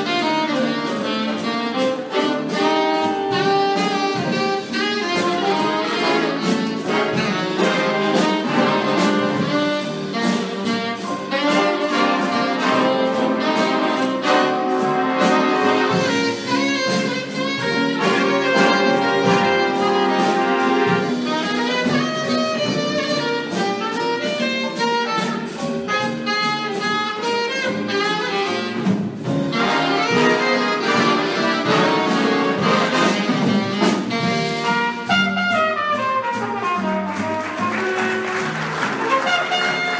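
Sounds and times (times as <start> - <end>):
jazz big band playing: 0.0 - 39.9.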